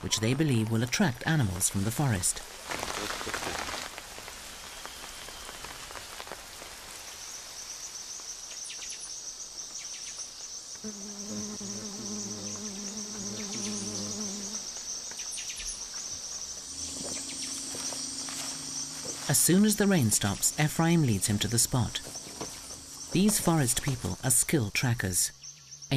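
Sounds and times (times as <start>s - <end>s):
insects chorus: 1.3s - 25.9s.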